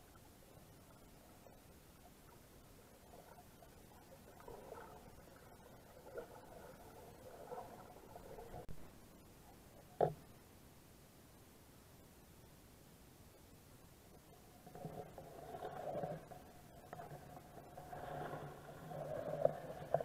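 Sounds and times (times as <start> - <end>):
underwater water movement: 0.0 - 10.3, 14.1 - 20.0.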